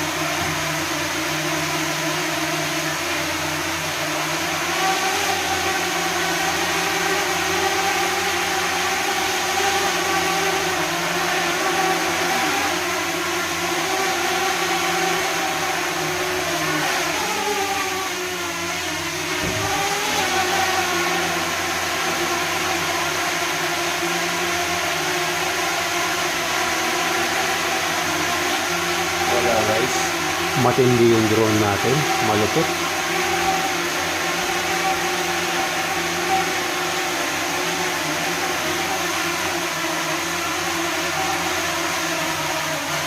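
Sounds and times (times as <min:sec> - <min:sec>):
drone propellers whirring: 0:00.0 - 0:43.0
electric fans blowing: 0:00.0 - 0:43.0.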